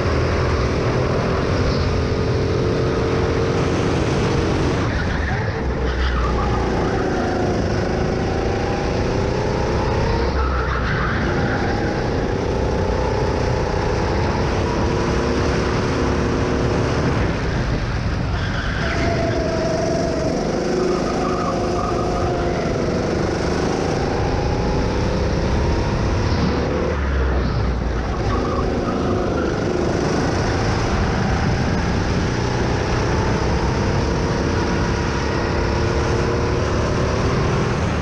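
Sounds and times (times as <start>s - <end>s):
go-kart engine: 0.0s - 38.0s.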